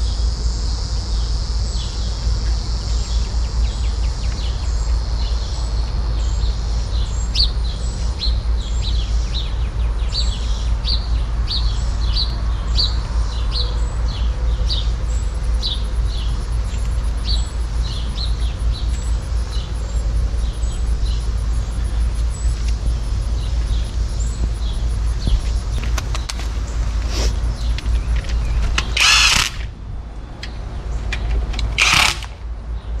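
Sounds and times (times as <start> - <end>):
bird chirping: 1.7 - 29.4.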